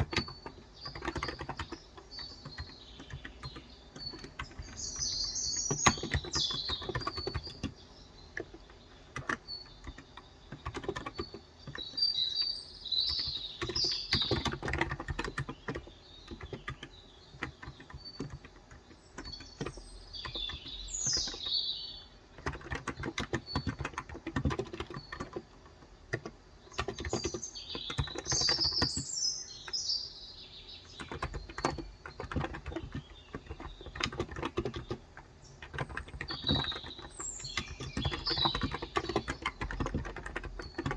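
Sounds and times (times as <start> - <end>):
typing on a keyboard: 0.0 - 21.6, 22.2 - 29.9, 30.8 - 40.9
small birds chirping: 0.0 - 40.9.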